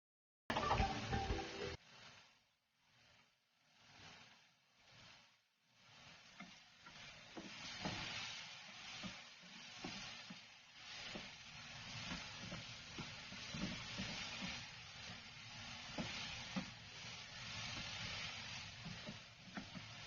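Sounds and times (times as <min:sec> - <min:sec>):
stir-fry sizzling in a pan: 0:00.5 - 0:20.0
spatula scraping a pan: 0:00.6 - 0:20.0.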